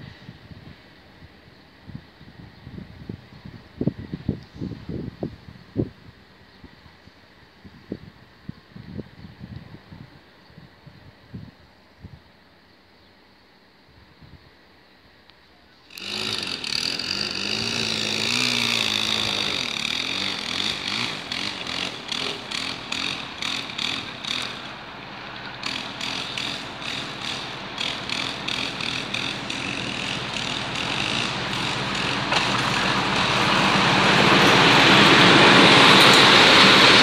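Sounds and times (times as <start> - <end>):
diesel locomotive engine: 0.0 - 13.8, 14.6 - 37.0.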